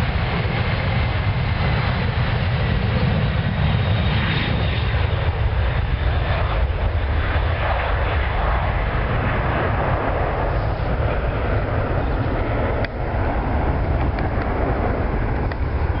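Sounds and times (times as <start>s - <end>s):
jet engines at takeoff: 0.0s - 16.0s
wind rumble on microphone: 0.0s - 16.0s.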